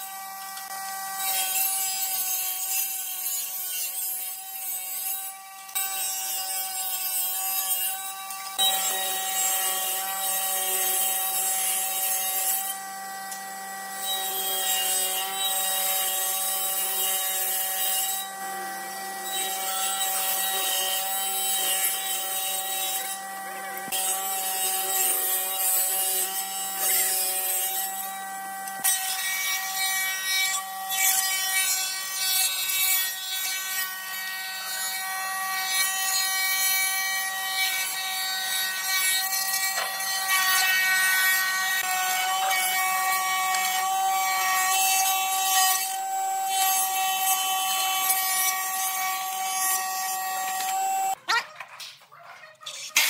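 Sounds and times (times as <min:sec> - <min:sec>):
power tool whining: 0:00.0 - 0:51.2
rasping wood cutting: 0:00.0 - 0:51.2.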